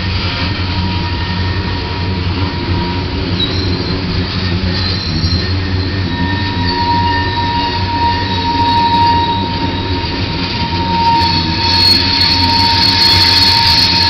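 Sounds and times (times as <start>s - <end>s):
freight train rumbling past: 0.0s - 14.0s
high-pitched wheel squeals: 0.0s - 14.0s.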